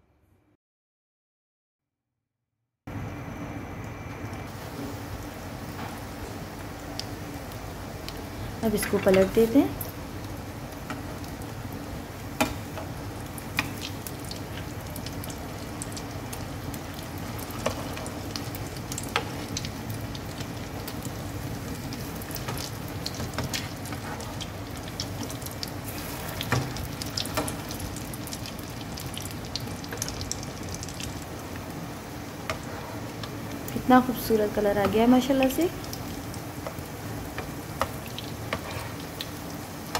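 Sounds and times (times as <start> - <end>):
patties sizzling in hot oil: 3.7 - 39.9.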